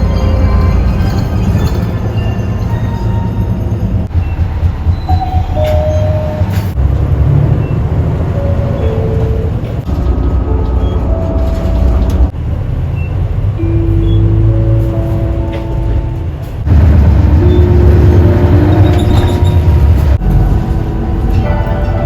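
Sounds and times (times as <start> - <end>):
low rumble of bus running: 0.0 - 22.0.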